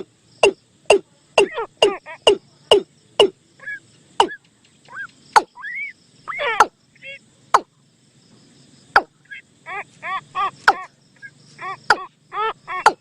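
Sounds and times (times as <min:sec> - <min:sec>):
bird calls: 0:00.0 - 0:07.8, 0:08.9 - 0:13.0.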